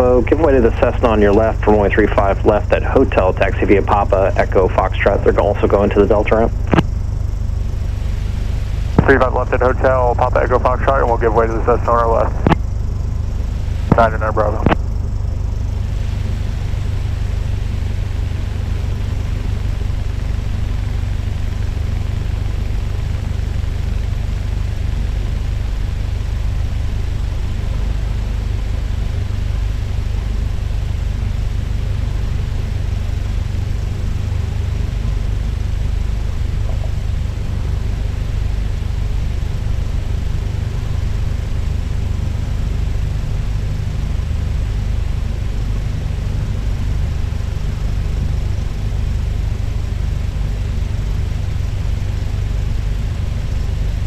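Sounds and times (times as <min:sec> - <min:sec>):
propeller engine deep rumble: 0:00.0 - 0:54.0.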